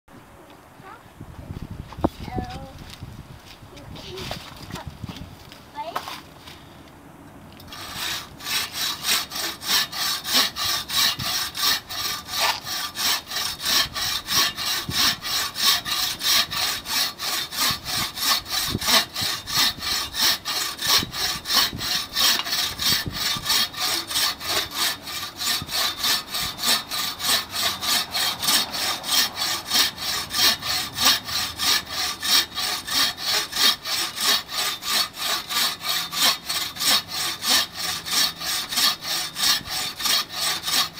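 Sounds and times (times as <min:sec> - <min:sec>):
hand saw cutting log: 0:07.6 - 0:40.9.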